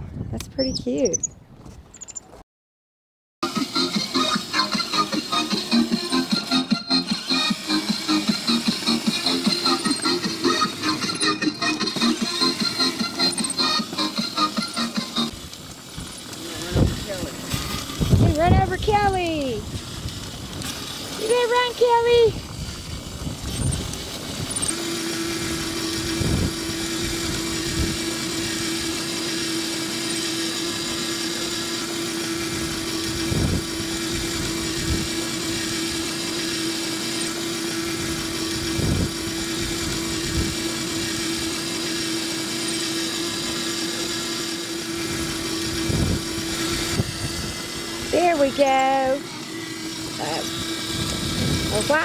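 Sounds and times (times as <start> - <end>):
electric toy car motor whine: 3.4 - 52.0
plastic wheels rolling on concrete: 4.2 - 52.0.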